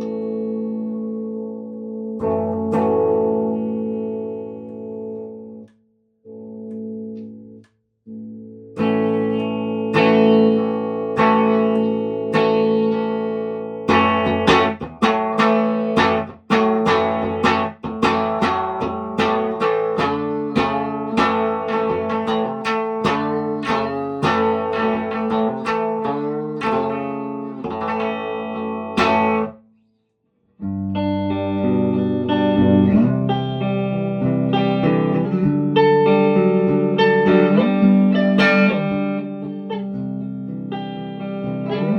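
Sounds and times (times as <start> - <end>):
electric guitar chords and notes: 0.0 - 29.6, 30.6 - 41.9.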